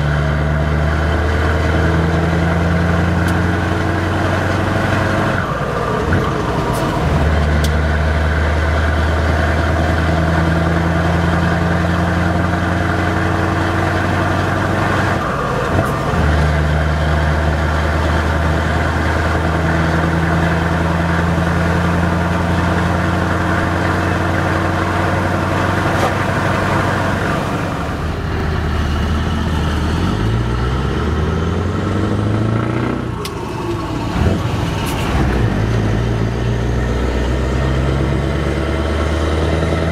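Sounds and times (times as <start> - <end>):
diesel truck engine from cab: 0.0 - 39.9.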